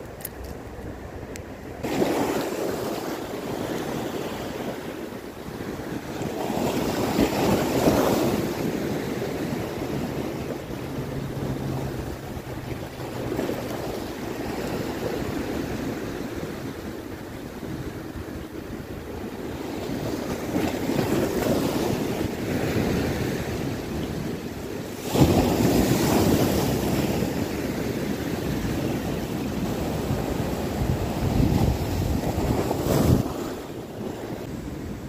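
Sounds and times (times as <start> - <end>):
sea waves breaking on rocks: 0.0 - 35.0.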